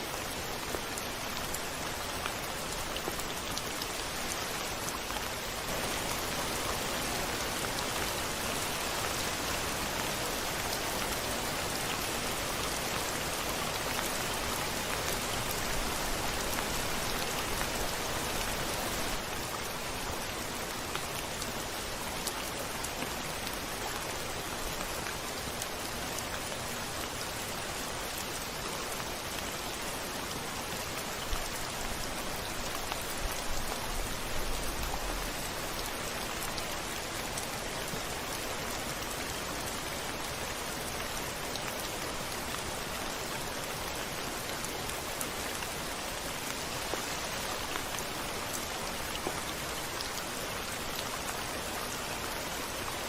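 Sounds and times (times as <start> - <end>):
rain on a window pane: 0.0 - 53.0.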